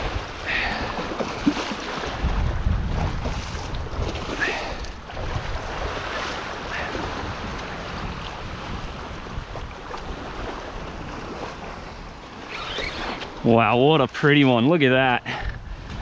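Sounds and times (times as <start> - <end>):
wind buffeting microphone: 0.0 - 14.1, 15.2 - 16.0
small waves washing onto sand: 0.0 - 15.2.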